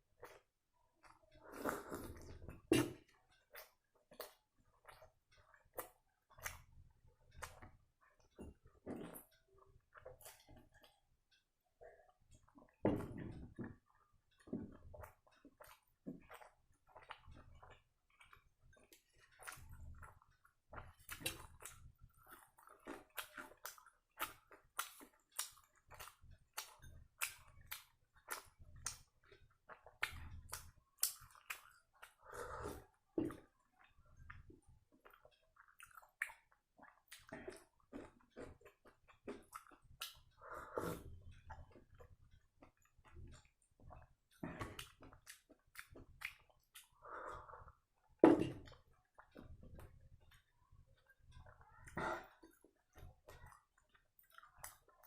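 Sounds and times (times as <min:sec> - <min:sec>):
wet chewing and lip smacking: 0:00.2 - 0:11.1, 0:13.8 - 0:55.0.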